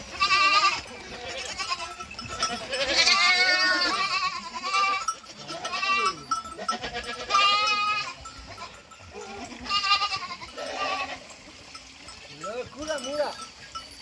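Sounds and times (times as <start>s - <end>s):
sheep or goats bleating: 0.0s - 11.4s.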